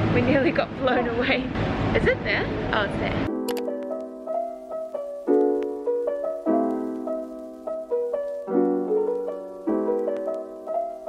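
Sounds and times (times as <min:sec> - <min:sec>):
piano music: 0:00.2 - 0:11.0.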